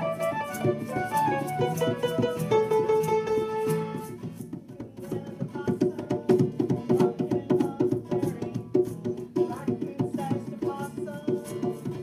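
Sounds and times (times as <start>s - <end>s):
acoustic guitar strumming: 0.0s - 12.0s
hand drum hits: 0.0s - 12.0s.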